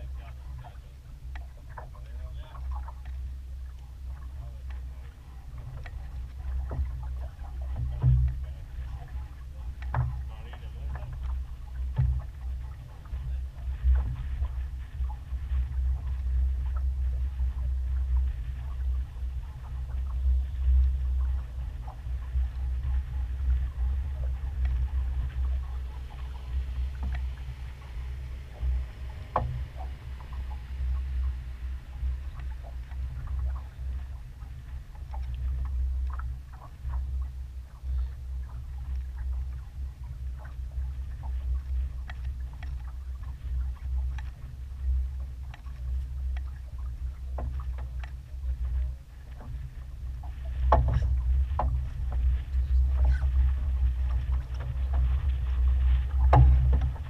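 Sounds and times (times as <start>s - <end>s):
water splashing along hull: 0.0s - 57.0s
wind buffeting microphone: 0.0s - 57.0s.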